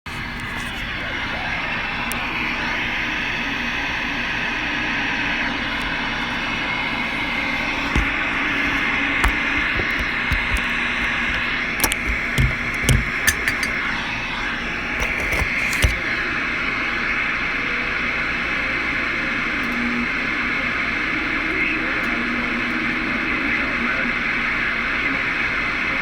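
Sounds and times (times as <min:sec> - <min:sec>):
faint hum: 0:00.1 - 0:26.0
radio static hiss: 0:00.1 - 0:26.0.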